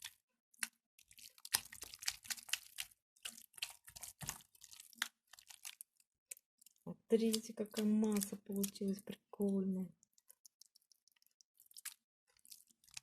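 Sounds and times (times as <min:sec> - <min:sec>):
slime squelching and crackling: 0:00.0 - 0:13.0.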